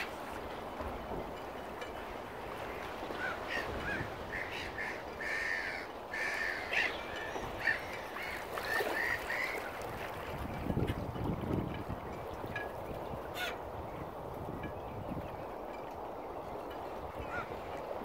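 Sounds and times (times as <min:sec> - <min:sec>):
waterbirds calling: 0:00.0 - 0:18.0.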